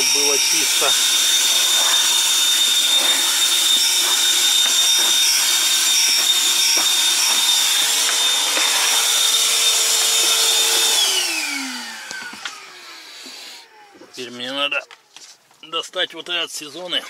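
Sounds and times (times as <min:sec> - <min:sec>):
vacuum cleaner whining: 0:00.0 - 0:15.0.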